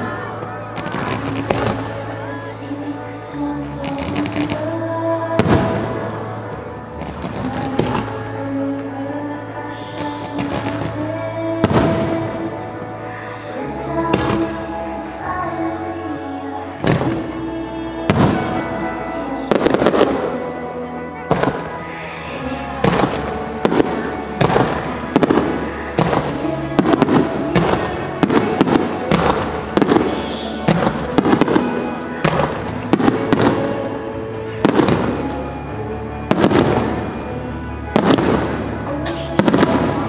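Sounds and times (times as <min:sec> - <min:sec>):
fireworks bangs: 0:00.0 - 0:08.5, 0:09.9 - 0:14.8, 0:18.1 - 0:20.4, 0:22.8 - 0:40.0
music: 0:00.0 - 0:40.0.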